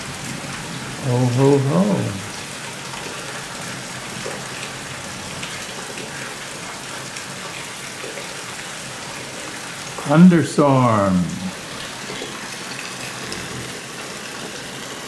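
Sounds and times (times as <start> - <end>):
steady rain on vegetation: 0.0 - 15.0.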